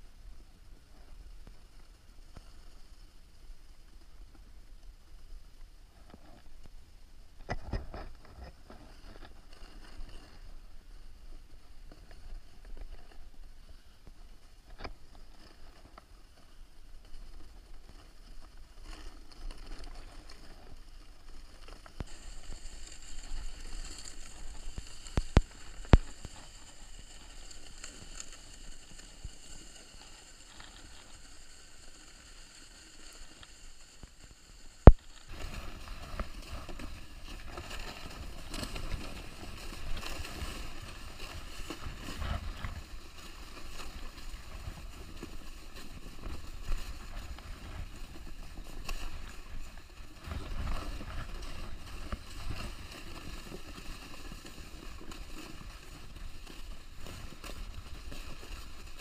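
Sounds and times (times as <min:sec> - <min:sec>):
kneeboard dragged through snow: 0:07.5 - 0:59.0.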